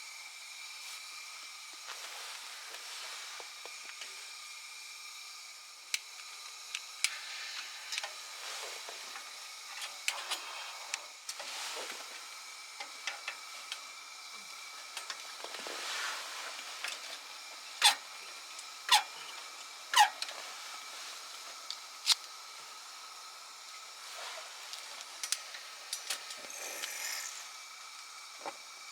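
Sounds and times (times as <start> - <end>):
wood fire hissing and crackling: 0.0 - 28.9.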